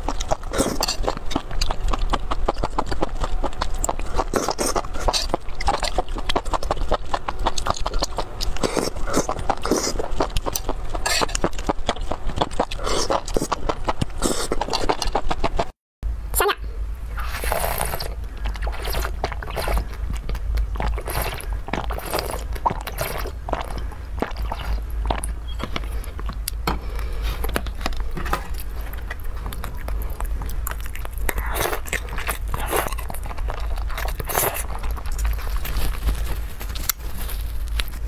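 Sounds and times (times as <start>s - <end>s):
chewing with wet mouth clicks: 0.0s - 15.7s, 17.6s - 35.8s.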